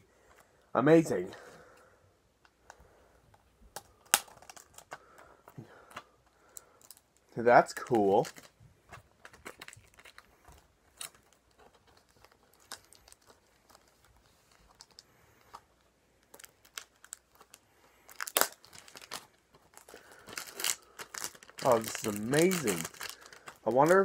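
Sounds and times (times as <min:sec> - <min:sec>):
packaging crinkling and rustling: 0:03.7 - 0:24.0.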